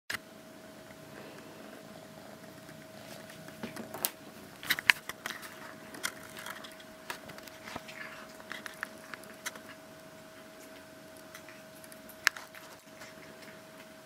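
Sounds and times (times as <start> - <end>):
faint steady hum: 0.1 - 14.0
cats crunching treats: 1.0 - 14.0.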